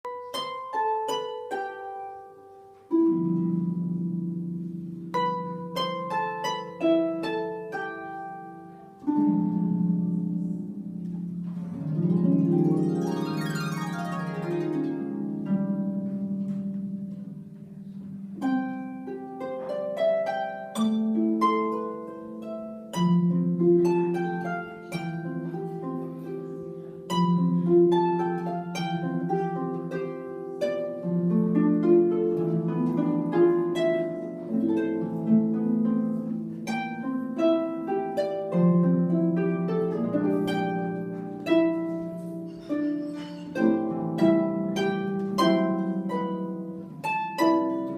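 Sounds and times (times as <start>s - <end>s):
plucked string instrument: 0.0s - 47.9s.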